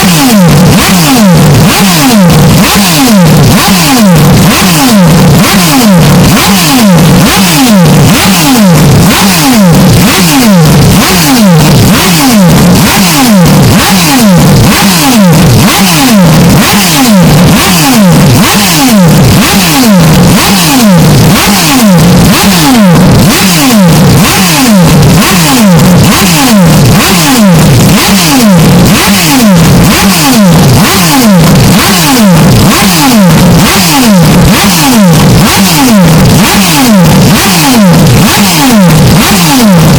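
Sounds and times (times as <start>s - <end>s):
distorted racing engine revving: 0.0s - 39.9s.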